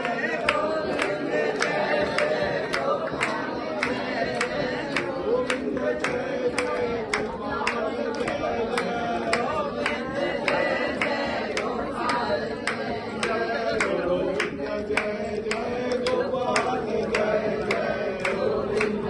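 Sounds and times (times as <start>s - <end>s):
percussive beat: 0.0s - 19.0s
voices singing: 0.0s - 19.0s.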